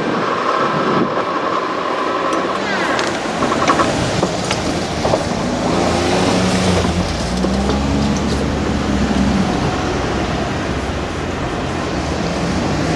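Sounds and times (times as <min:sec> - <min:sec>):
vehicle passing by: 0:01.6 - 0:12.9.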